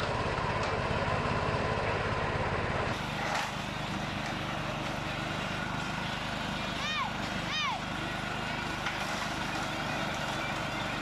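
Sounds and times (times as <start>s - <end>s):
engine running with low throb: 0.0s - 11.0s.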